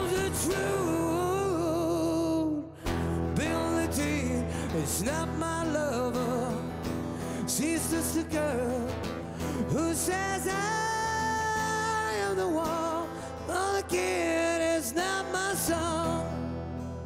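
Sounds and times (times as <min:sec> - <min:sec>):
man singing a ballad: 0:00.0 - 0:16.8
acoustic guitar: 0:00.0 - 0:17.0.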